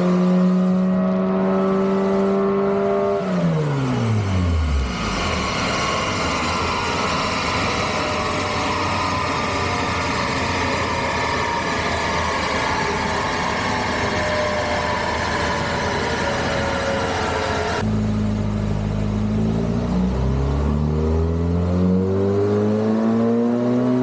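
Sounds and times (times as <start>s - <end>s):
car engine running under load: 0.0s - 22.2s.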